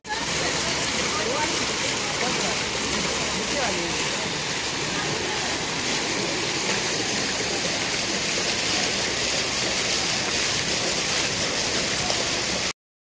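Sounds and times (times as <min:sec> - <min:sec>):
bubbling water jets: 0:00.0 - 0:12.7
fountain water splashing: 0:00.0 - 0:12.7.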